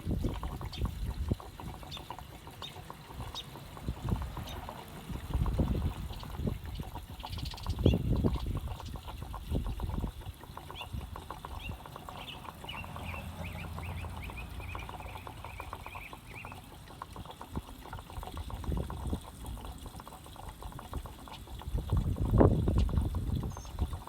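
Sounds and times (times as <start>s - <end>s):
gasoline pouring into fuel tank: 0.0s - 24.0s.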